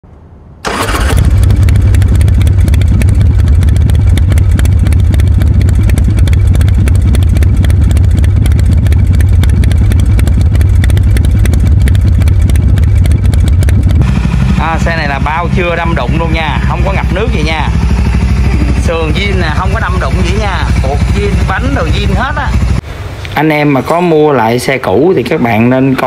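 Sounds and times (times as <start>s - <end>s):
engine idling: 0.6s - 23.1s.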